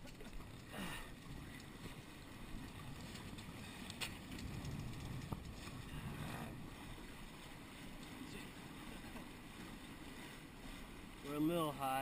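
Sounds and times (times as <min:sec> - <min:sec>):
wind buffeting microphone: 0:00.0 - 0:11.2
wind and water rushing: 0:00.0 - 0:12.0.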